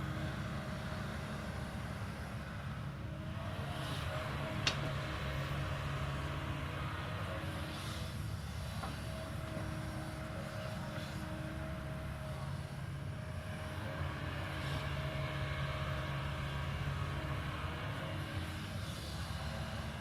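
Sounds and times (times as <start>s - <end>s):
excavator diesel engine drone: 0.0s - 20.0s.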